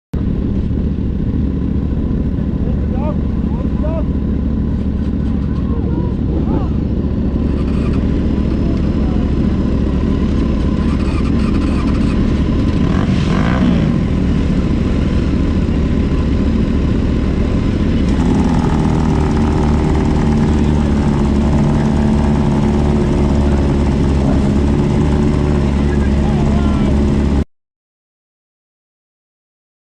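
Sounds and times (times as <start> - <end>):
low wind rumble: 0.2 - 27.4
motorcycle engine running: 0.2 - 27.4.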